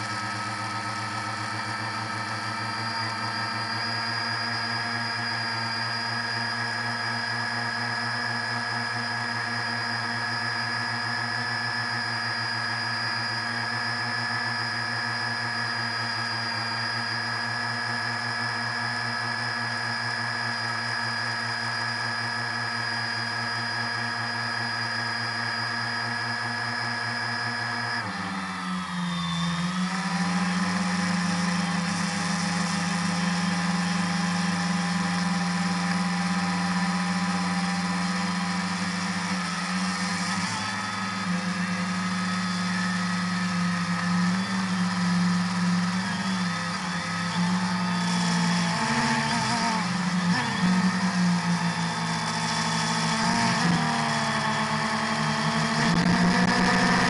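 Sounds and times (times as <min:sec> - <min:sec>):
drone motors whining: 0:00.0 - 0:57.0.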